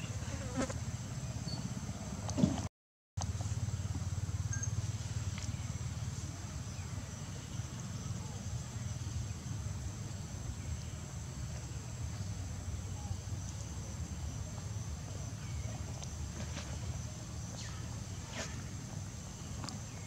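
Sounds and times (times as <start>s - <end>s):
insects droning: 3.2s - 20.0s.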